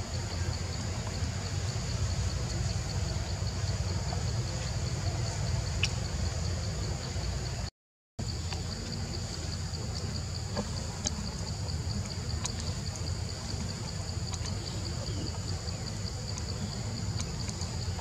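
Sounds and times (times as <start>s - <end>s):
insects buzzing: 0.0s - 18.0s
low background rumble: 0.0s - 18.0s.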